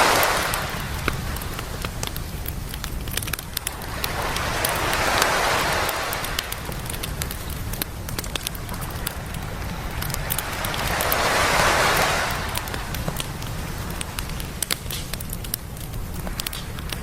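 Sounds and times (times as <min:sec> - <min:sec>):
wave washing up beach: 0:00.0 - 0:14.8
campfire crackling and popping: 0:00.0 - 0:17.0.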